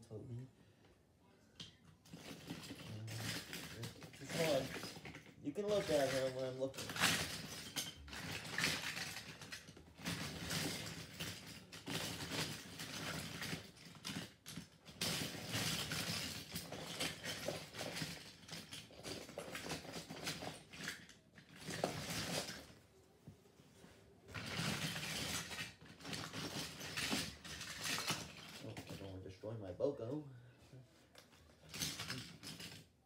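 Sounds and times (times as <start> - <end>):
objects rustling and clattering: 0.2 - 33.0.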